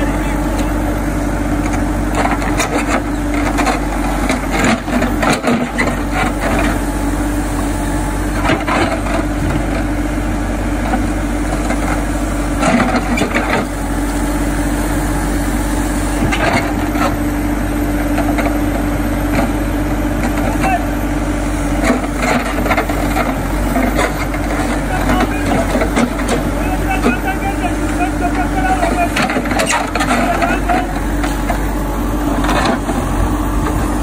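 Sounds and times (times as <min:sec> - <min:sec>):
backhoe diesel engine running: 0:00.0 - 0:34.0.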